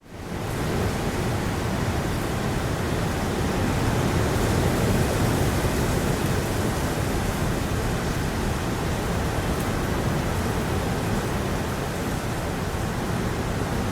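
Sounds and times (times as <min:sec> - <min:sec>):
blustery wind: 0:00.0 - 0:13.9
heavy rain falling: 0:00.2 - 0:13.9.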